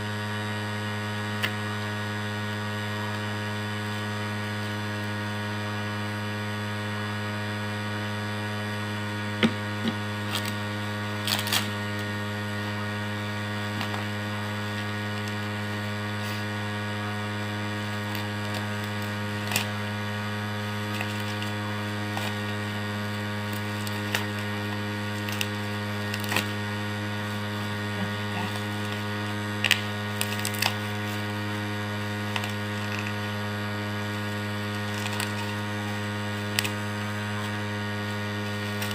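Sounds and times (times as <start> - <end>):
electrical mains hum: 0.0 - 38.9.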